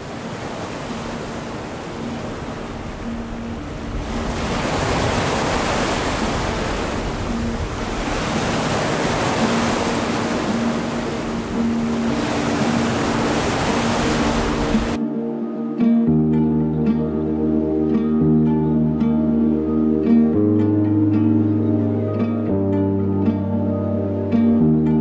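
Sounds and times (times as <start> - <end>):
ocean waves washing: 0.0 - 25.0.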